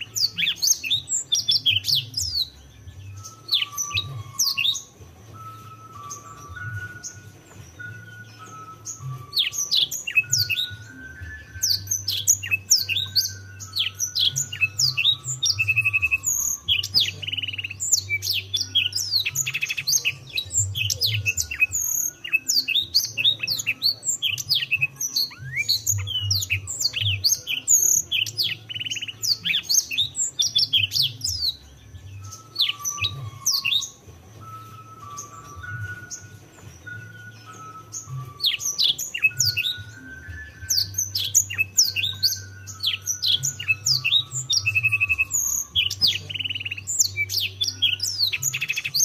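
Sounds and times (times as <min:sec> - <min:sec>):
canary singing: 0:00.0 - 0:49.0.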